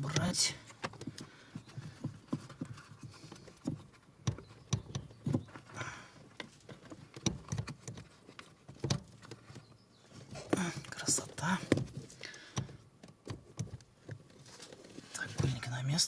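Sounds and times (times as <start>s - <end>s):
clicks and knocks of car parts: 0.0s - 15.7s.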